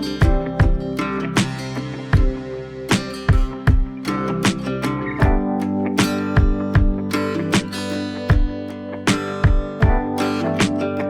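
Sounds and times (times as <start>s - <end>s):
guitar strumming over a beat: 0.0s - 11.0s.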